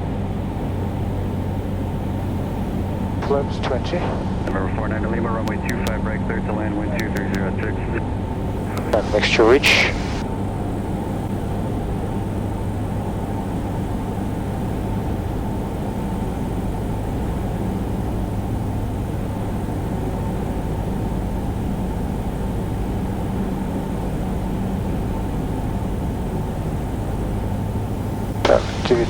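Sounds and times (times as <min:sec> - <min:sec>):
airplane engine and propeller droning: 0:00.0 - 0:29.0.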